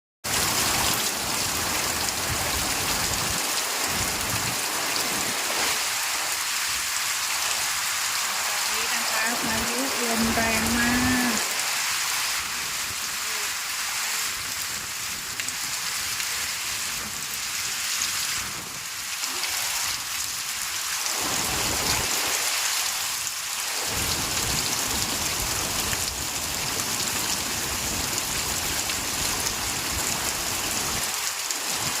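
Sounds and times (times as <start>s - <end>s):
heavy rain: 0.2s - 32.0s.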